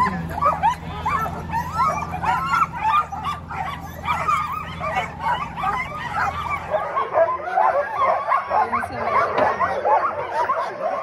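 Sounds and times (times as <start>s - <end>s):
dogs yipping barking and whining: 0.0s - 11.0s.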